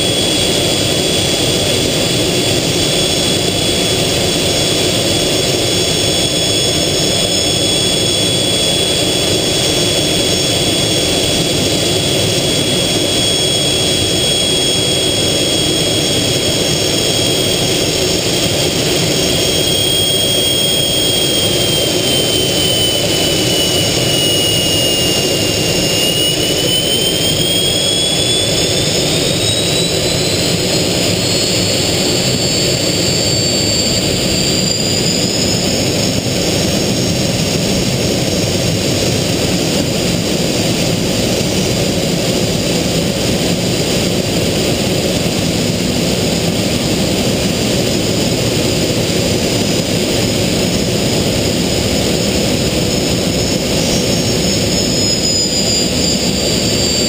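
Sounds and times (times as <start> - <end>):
high engine whine: 0.0 - 57.0
jet engine and airflow roar: 0.0 - 57.0.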